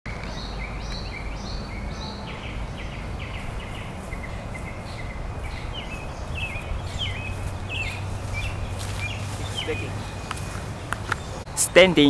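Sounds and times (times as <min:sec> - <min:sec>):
steady low rumble: 0:00.1 - 0:11.5
birds chirping: 0:00.1 - 0:12.0.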